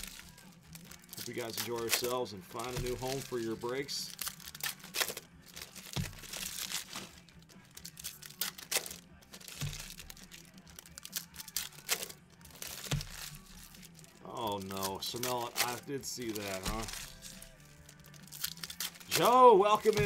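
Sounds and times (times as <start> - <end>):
card pack wrappers crinkling: 0.0 - 20.0.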